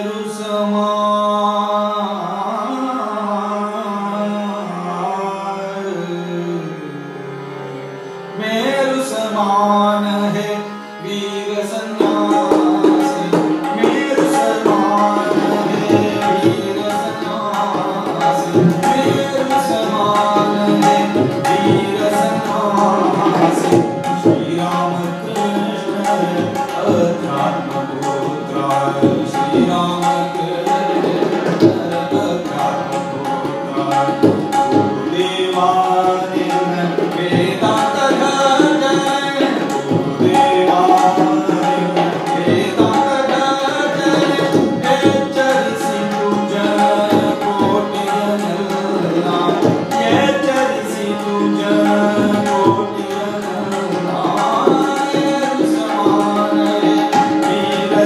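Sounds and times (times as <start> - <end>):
man singing: 0.0 - 7.2, 8.4 - 58.0
harmonium chords: 0.0 - 58.0
tabla playing: 8.3 - 58.0.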